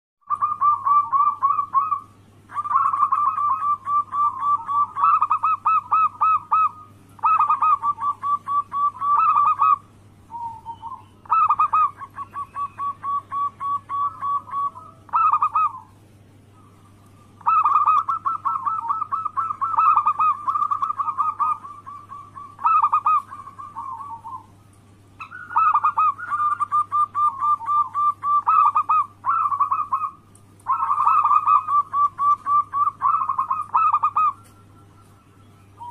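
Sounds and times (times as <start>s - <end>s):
dove cooing: 0.2s - 35.9s
steady low hum: 0.2s - 35.9s.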